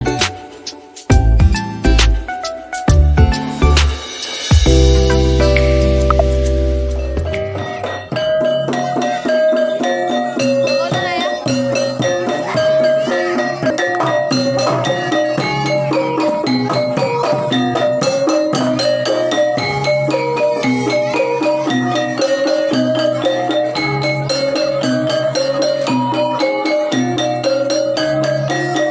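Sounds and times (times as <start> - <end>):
metallophones striking melodic notes: 1.2 - 28.9.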